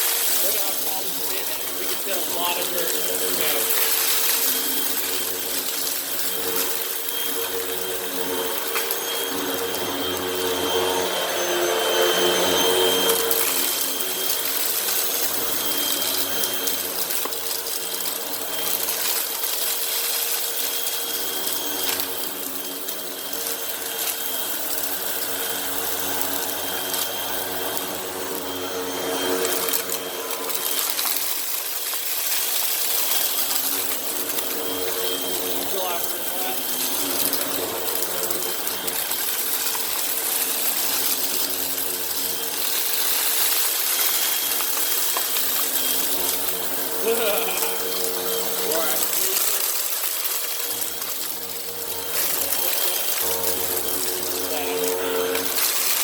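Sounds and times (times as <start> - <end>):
debris crackling and rattling in vacuum: 0.0 - 56.0
upright vacuum motor hum: 0.0 - 56.0.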